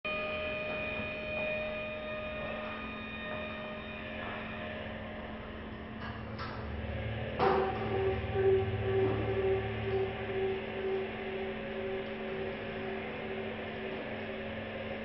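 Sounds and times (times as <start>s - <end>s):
drone of held tones: 0.1s - 15.0s.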